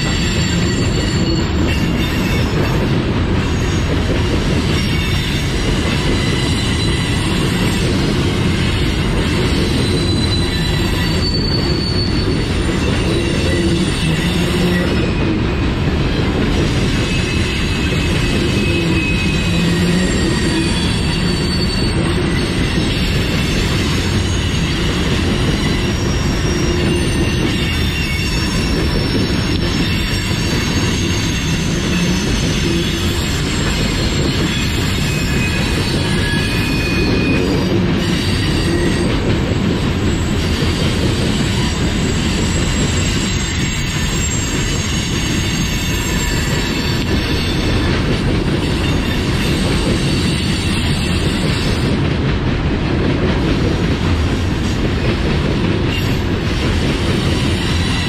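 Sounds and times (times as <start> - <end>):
wheels squealing: 0.0 - 15.4, 16.6 - 52.0
steel wheels rumbling on track: 0.0 - 58.0.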